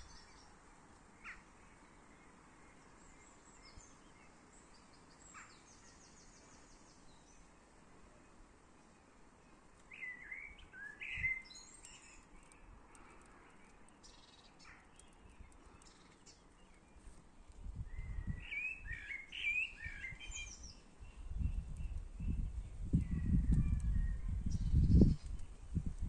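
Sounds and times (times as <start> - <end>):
faint outdoor background: 0.0 - 26.0
songbirds singing: 0.0 - 26.0.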